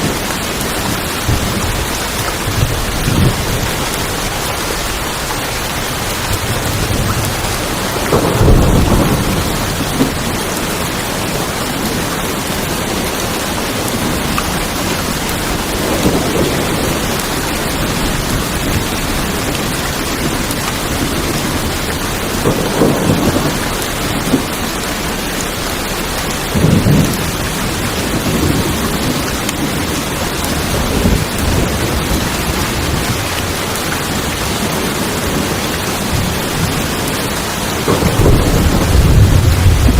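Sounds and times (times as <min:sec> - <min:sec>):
heavy rain on a tin roof: 0:00.0 - 0:39.9
thunder rumbling: 0:00.0 - 0:39.9.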